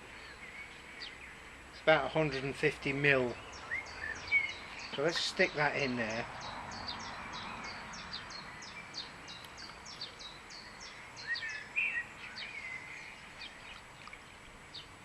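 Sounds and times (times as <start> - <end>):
birds chirping: 0.0 - 15.0
faint background hiss: 0.0 - 15.0.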